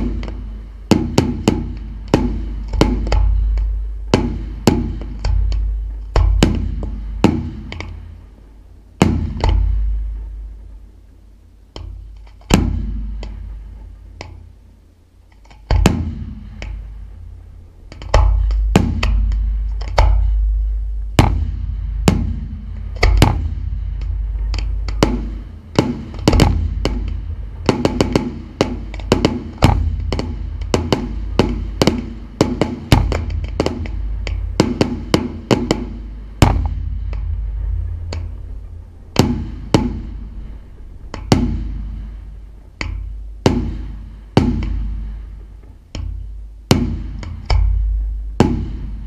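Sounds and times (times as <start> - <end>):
fireworks bangs with rumbling echo: 0.0 - 8.3, 15.6 - 49.0.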